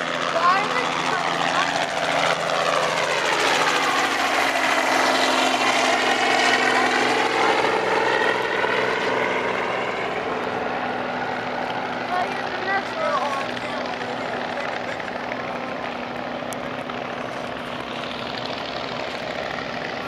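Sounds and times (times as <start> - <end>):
helicopter flying overhead: 0.0 - 20.0.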